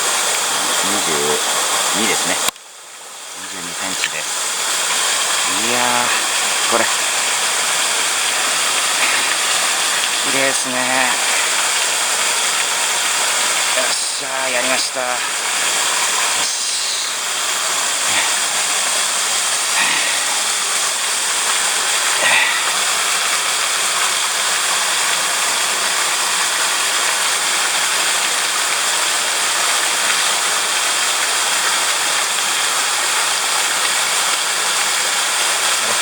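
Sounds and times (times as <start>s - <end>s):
stream rushing over rocks: 0.0s - 2.5s, 3.1s - 36.0s.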